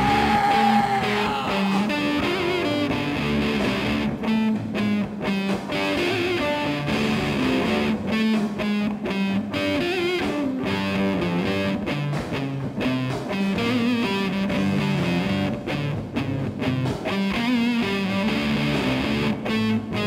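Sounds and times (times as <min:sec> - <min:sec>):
rock music with distorted guitar: 0:00.0 - 0:20.0.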